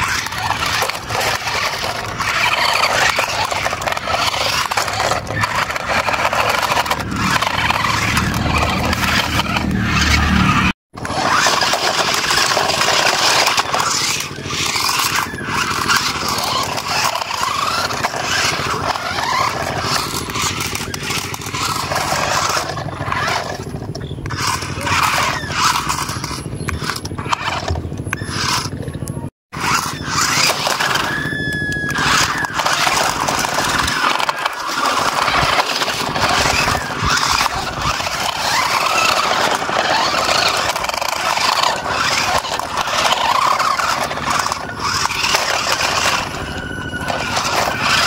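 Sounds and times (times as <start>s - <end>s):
toy car motors whirring: 0.0s - 48.0s
toy cars knocking and clattering: 0.0s - 48.0s
tyres scraping over gritty dirt: 0.0s - 48.0s.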